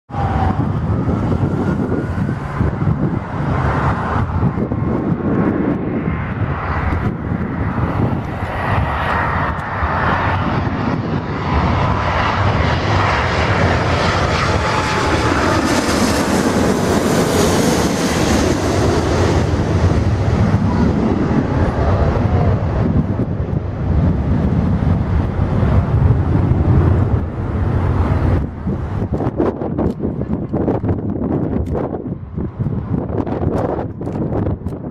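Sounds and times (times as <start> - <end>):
jet engines rumbling: 0.1 - 34.9.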